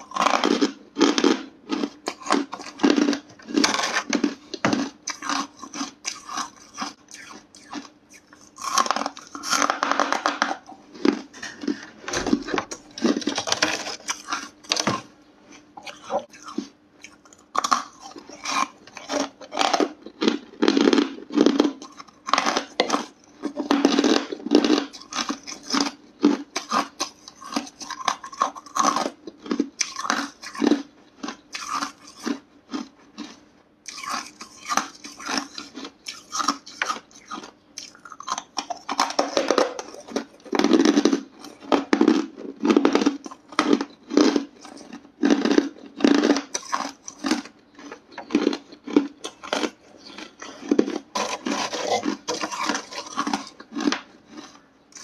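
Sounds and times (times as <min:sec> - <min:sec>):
ice chunks being chewed: 0:00.0 - 0:55.0.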